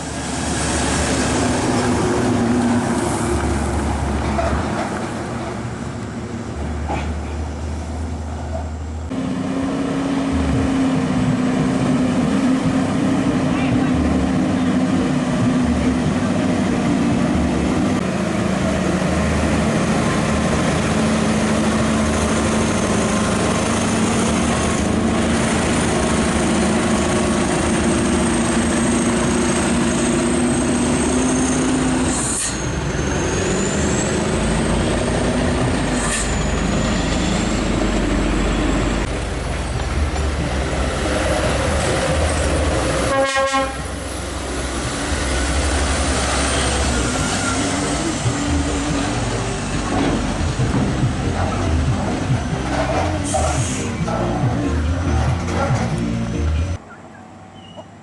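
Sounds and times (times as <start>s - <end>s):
road and wind noise: 0.0s - 58.0s
truck engine: 0.0s - 58.0s.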